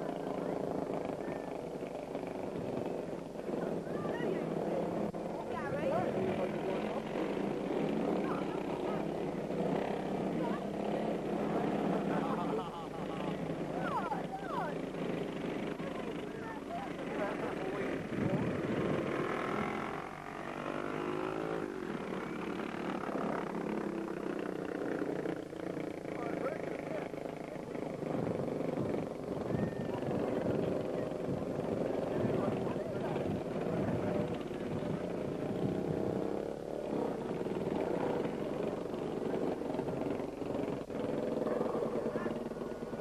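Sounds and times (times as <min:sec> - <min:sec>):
motorcycle engine passing: 0:00.0 - 0:43.0.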